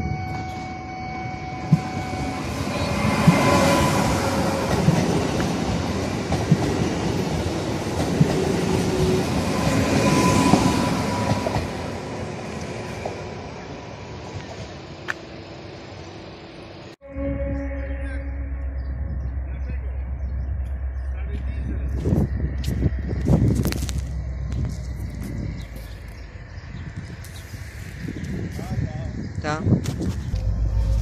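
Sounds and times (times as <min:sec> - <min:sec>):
train wheels rumbling and knocking: 0:01.6 - 0:15.3, 0:19.4 - 0:31.0.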